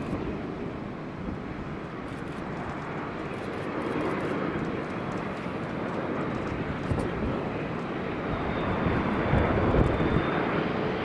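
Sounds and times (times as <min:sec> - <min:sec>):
airliner jet engines rushing: 0:00.0 - 0:11.0.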